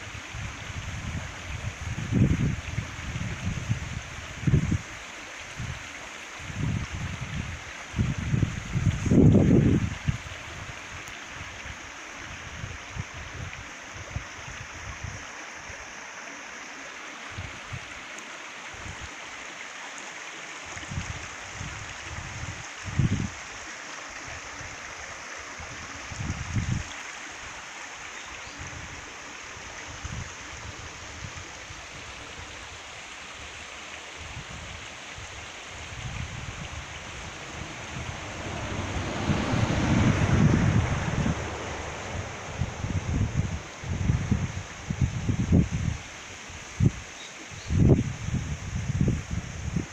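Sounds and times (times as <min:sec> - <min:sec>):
stream running over stones: 0:00.0 - 0:49.9.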